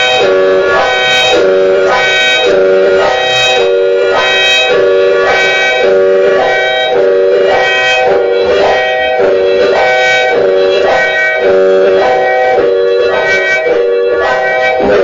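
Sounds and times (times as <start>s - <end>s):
reedy organ-like alert melody: 0.0s - 15.0s.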